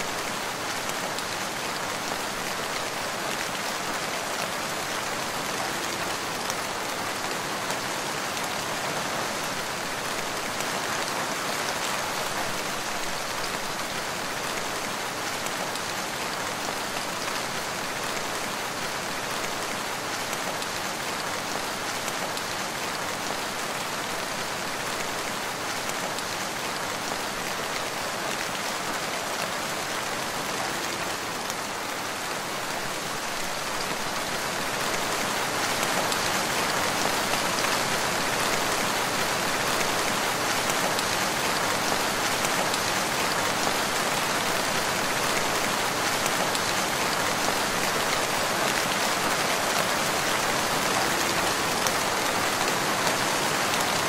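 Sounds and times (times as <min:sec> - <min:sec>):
rain falling on forest: 0:00.0 - 0:54.0.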